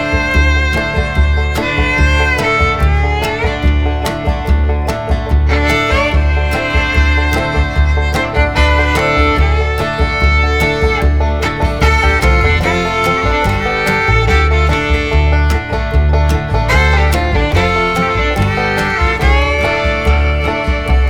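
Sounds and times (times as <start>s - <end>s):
upbeat bluegrass music: 0.0s - 21.0s.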